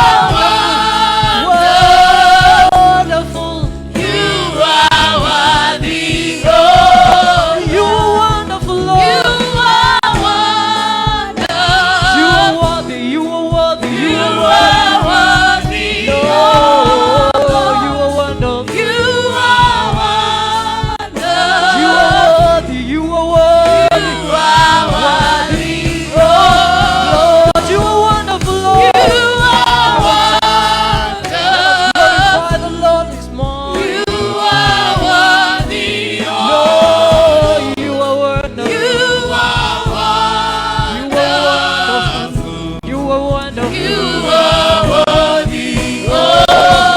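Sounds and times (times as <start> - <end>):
band with steady beat: 0.0 - 46.9
group of voices singing gospel: 0.0 - 46.9.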